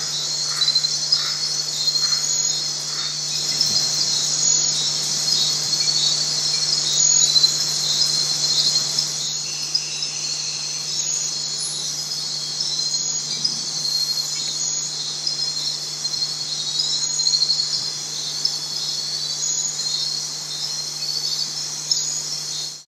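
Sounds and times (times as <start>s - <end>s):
low hum: 0.0s - 19.7s
crickets and insects trilling: 0.0s - 22.8s.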